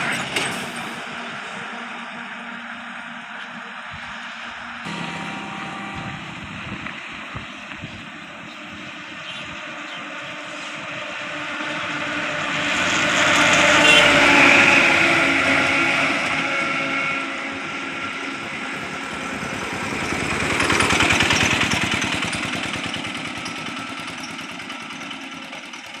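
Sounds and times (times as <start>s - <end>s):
vehicles passing on highway: 0.0s - 26.0s.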